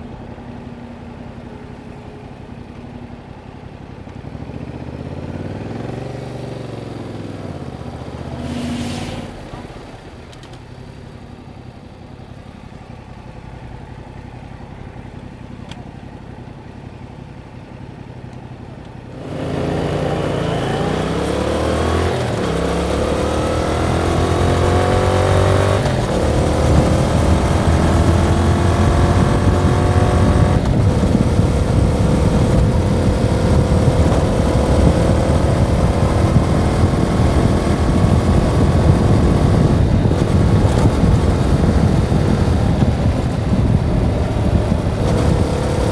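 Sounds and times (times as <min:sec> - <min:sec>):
motorcycle engine: 0:00.0 - 0:45.9
road and wind noise: 0:00.0 - 0:45.9.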